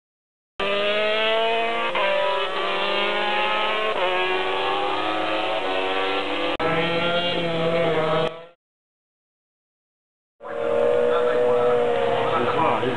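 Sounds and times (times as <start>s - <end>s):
racing motorcycle engine: 0.6s - 8.6s, 10.4s - 12.9s.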